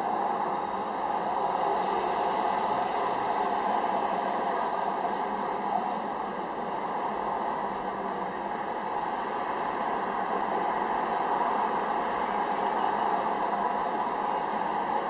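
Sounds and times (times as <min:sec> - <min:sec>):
traffic noise hiss: 0:00.0 - 0:15.0.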